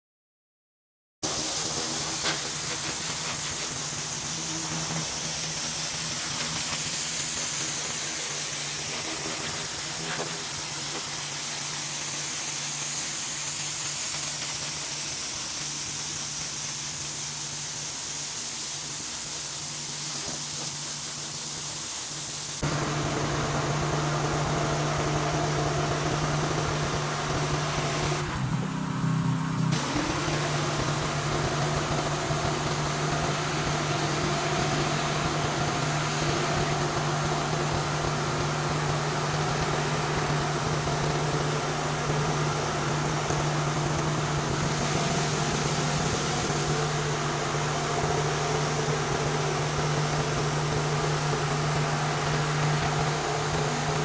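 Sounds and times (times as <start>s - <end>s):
high-pressure water spray hissing: 1.2s - 28.2s, 29.8s - 54.0s
pressure washer engine: 1.2s - 54.0s.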